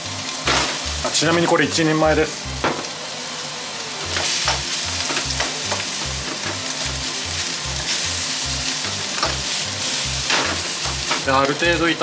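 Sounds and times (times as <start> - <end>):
food sizzling in wok: 0.0 - 12.0.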